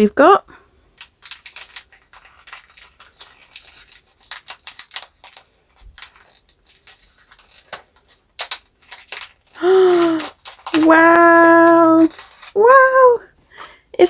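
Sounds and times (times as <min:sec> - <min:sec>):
plastic wrapper crinkling: 0:00.9 - 0:13.1.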